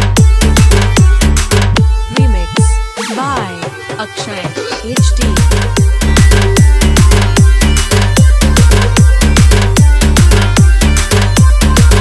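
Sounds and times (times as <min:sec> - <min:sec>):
deep kick drum beat: 0:00.0 - 0:12.0
electronic dance music: 0:00.0 - 0:12.0.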